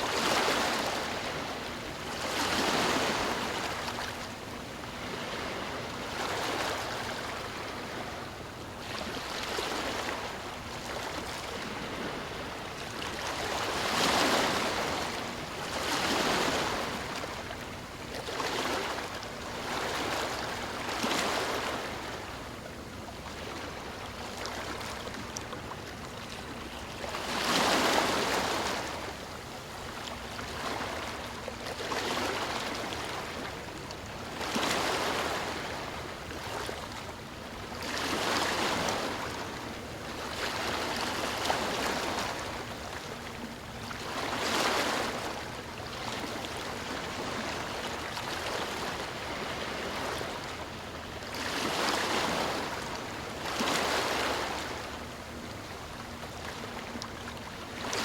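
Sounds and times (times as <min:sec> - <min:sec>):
ocean waves breaking: 0:00.0 - 0:22.5, 0:23.1 - 0:37.2, 0:37.8 - 0:58.0.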